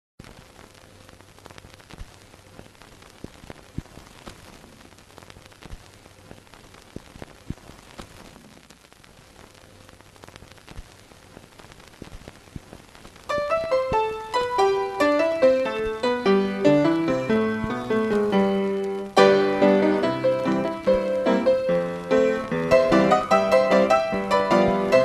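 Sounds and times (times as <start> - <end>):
old film crackle: 0.2 - 25.0.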